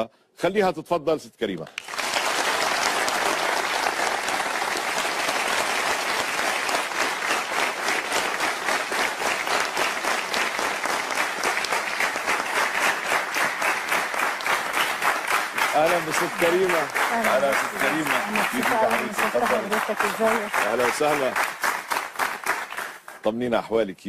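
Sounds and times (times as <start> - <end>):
rhythmic clapping in unison: 1.6 - 23.4
audience applauding: 1.7 - 23.3.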